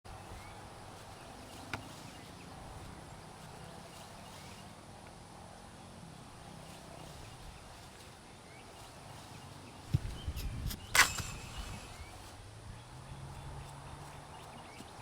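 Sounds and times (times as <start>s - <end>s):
low outdoor background noise: 0.1s - 15.0s.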